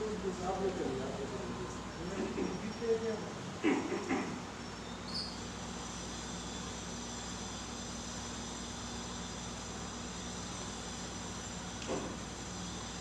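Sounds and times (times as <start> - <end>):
background hum and hiss: 0.0 - 13.0
faint high constant tones: 0.0 - 13.0.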